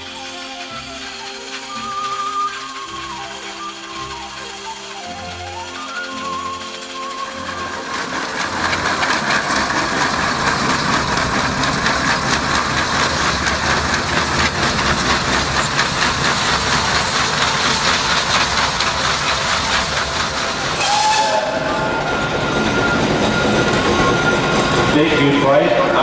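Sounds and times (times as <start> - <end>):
steam traction engine running: 0.0 - 26.0.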